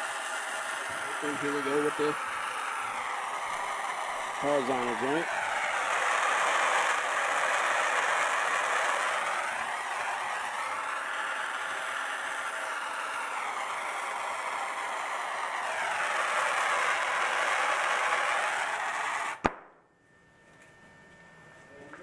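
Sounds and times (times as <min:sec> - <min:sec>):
gas torch flame hissing: 0:00.0 - 0:19.4.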